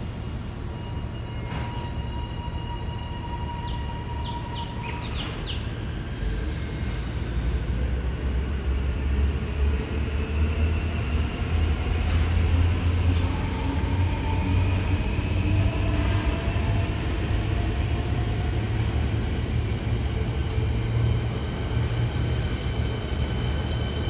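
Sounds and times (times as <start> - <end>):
electric train rumbling on track: 0.0 - 24.0.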